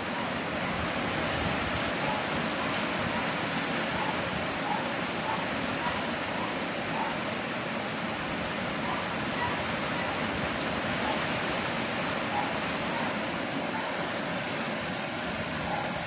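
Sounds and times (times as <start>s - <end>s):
heavy rain in strong wind: 0.0s - 16.0s.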